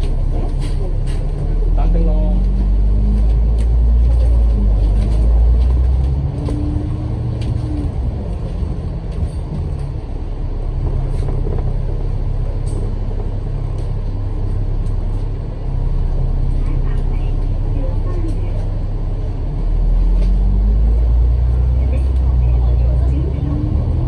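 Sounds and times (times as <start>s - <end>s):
bus engine low rumble: 0.0s - 24.0s
road noise: 0.0s - 24.0s.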